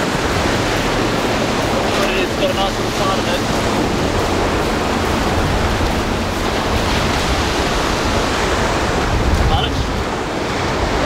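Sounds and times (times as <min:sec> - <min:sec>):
surf breaking on sand: 0:00.0 - 0:11.0.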